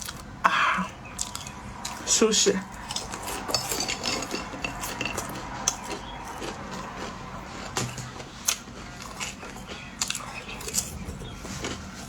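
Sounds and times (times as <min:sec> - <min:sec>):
food crunching while chewed: 0:00.0 - 0:12.0.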